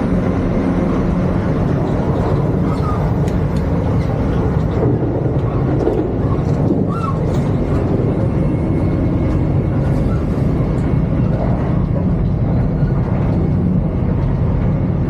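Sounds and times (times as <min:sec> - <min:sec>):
diesel train rumbling: 0:00.0 - 0:15.0.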